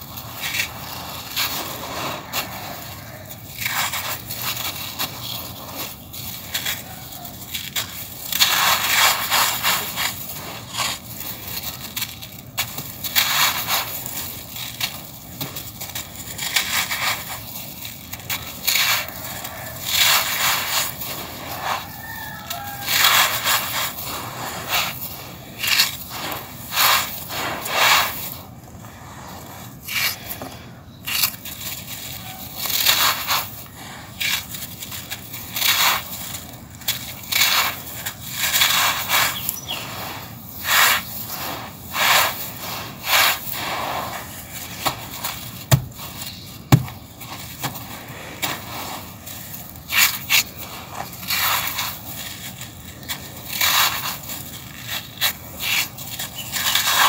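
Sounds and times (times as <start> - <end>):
sand pouring onto concrete: 0.0 - 57.0.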